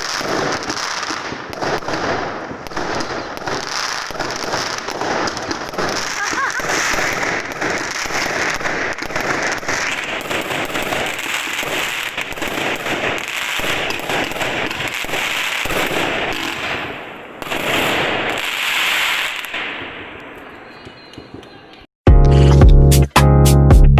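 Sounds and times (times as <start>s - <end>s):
fireworks crackling and banging: 0.0s - 21.9s.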